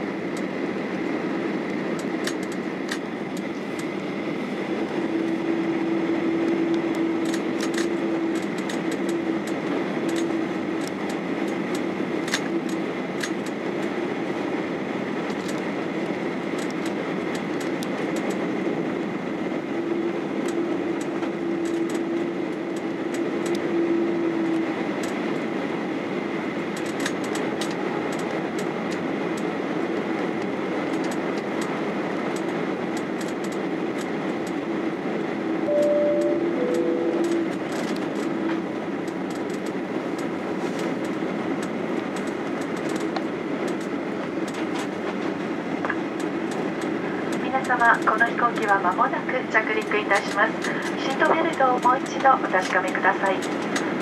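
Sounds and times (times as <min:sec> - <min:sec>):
airflow and jet engines in cabin: 0:00.0 - 0:54.0.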